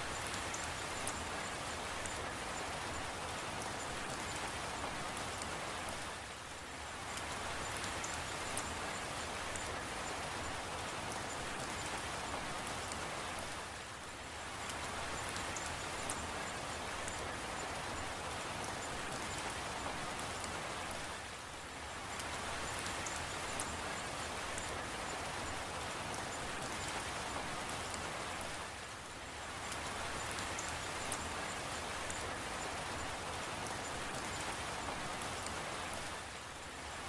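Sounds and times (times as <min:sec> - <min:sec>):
light drip ticks: 0:00.0 - 0:37.0
steady rain hiss: 0:00.0 - 0:37.0.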